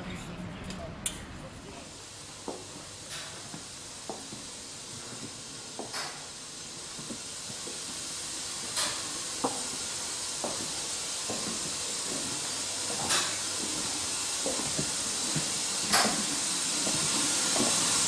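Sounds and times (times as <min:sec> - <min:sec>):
steady hissing of machinery: 0:01.4 - 0:18.0.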